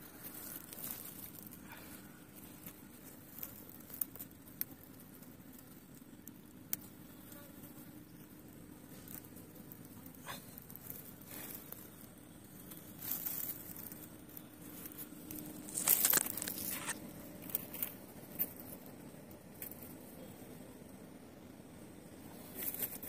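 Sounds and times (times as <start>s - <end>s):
rustling and crinkling handling: 0.0s - 20.2s, 22.3s - 23.0s
faint steady hum: 0.0s - 23.0s.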